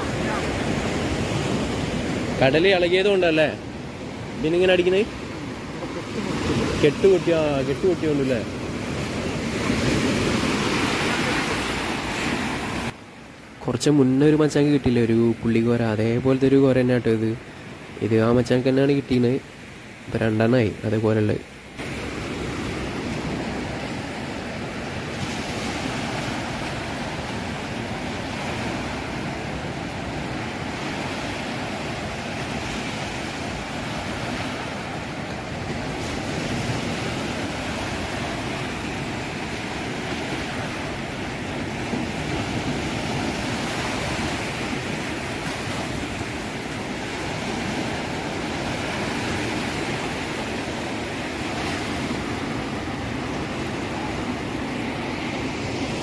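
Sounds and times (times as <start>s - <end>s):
surf washing up a beach: 0.0s - 56.0s.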